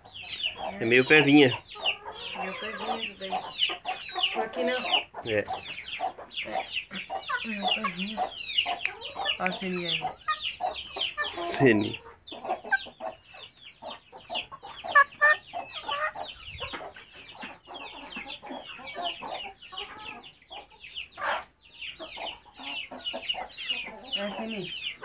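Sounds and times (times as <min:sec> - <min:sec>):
chicks peeping: 0:00.0 - 0:25.0
hens clucking: 0:00.0 - 0:25.0.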